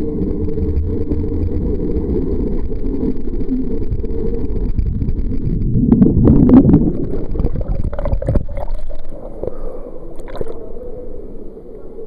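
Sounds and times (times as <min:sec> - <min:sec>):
underwater rushing and bubbling: 0:00.0 - 0:12.0
water splashing and gurgling: 0:00.2 - 0:10.8.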